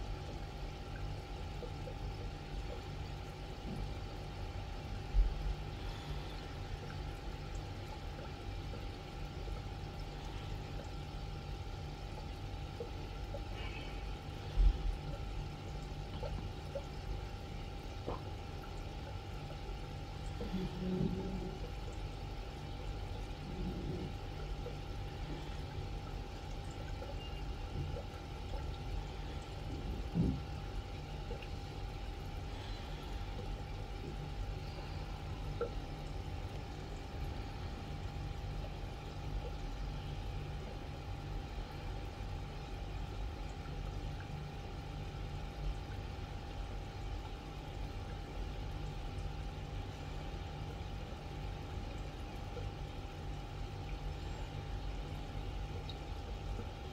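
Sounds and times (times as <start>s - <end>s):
constant hum and low rumble: 0.0s - 56.9s
water trickling in aquarium: 0.0s - 56.9s.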